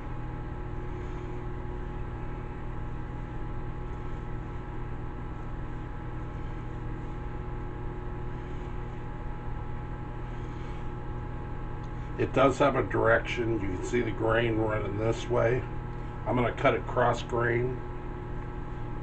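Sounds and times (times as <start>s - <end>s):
appliance fan humming: 0.0s - 19.0s.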